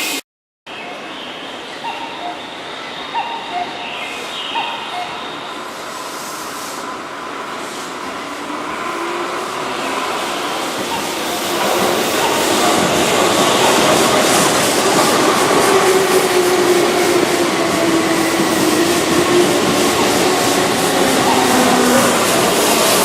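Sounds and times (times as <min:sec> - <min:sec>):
electric train running past: 0:00.8 - 0:23.0.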